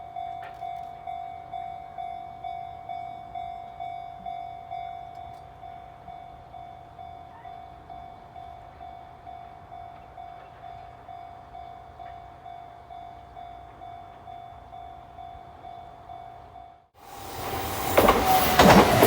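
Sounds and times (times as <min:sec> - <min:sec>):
level-crossing warning bell: 0:00.0 - 0:19.0.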